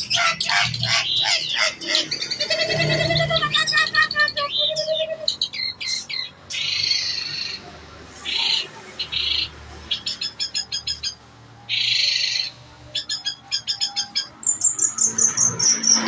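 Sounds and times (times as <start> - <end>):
shrike singing harsh rasps: 0.0 - 16.0.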